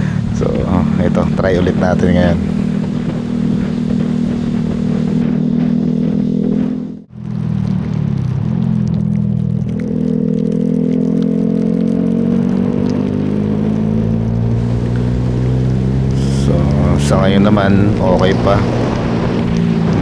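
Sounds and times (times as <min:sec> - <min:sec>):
motorcycle engine running: 0:00.0 - 0:20.0
wind hiss and tyre noise: 0:00.0 - 0:20.0.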